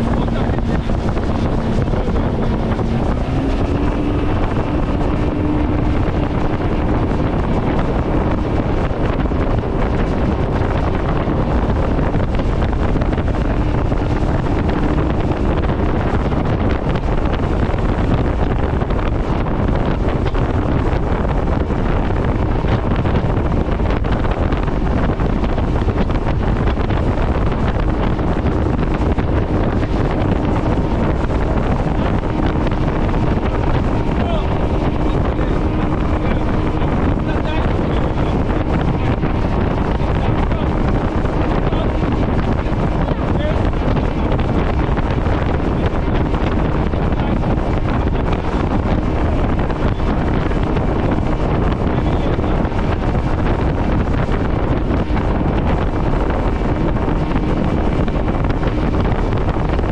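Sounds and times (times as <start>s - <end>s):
motorboat engine running: 0.0s - 59.9s
wind buffeting microphone: 0.0s - 59.9s.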